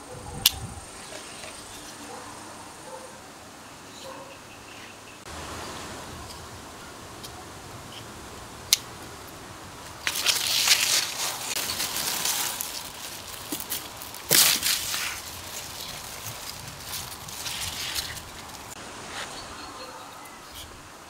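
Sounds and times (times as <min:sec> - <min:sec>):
leaves rustling: 0:00.0 - 0:21.0.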